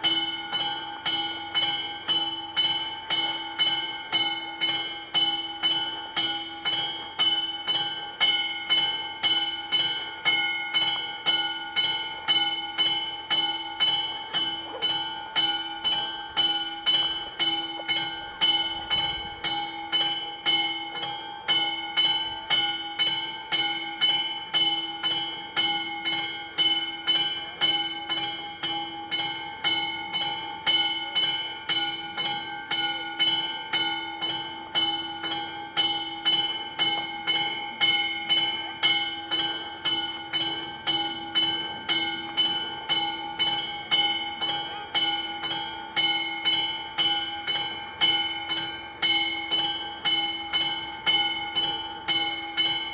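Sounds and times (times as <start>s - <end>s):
level crossing warning bell: 0.0s - 52.9s.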